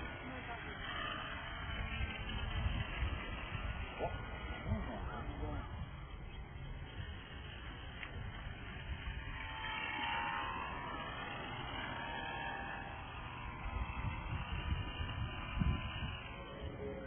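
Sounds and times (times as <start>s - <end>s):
low rumble: 0.0s - 17.0s
model plane motor whining: 0.0s - 17.0s.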